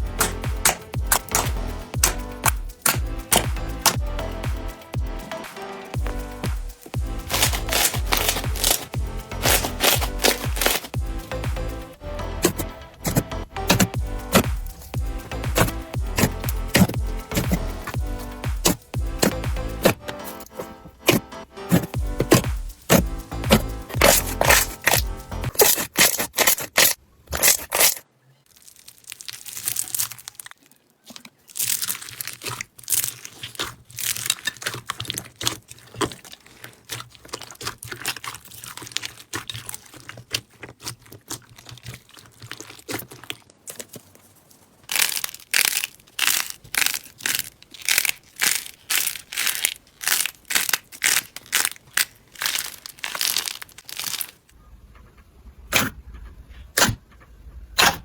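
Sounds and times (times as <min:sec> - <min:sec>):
crunchy slime crackling and popping: 0:00.0 - 0:04.0, 0:06.0 - 0:11.6, 0:12.4 - 0:54.6.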